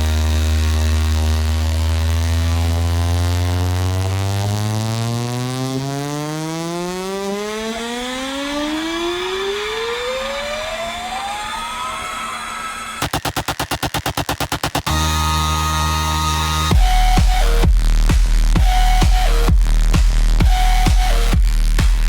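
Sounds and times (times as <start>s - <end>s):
rising bass sweep test tone: 0.0s - 22.0s.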